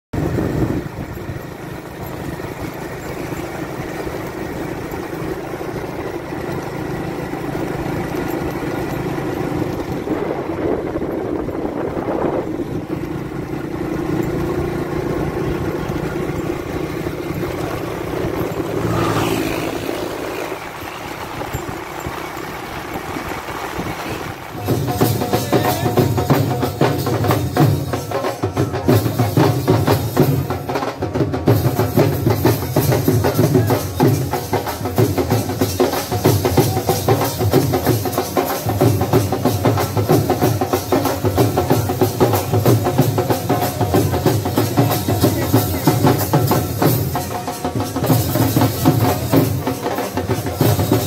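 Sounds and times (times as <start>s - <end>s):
road noise: 0.1s - 51.0s
vehicle engine hum: 0.1s - 51.0s.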